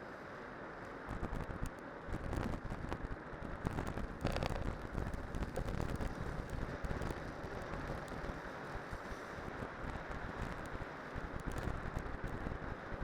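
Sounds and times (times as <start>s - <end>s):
wind rumble on microphone: 1.0s - 13.0s.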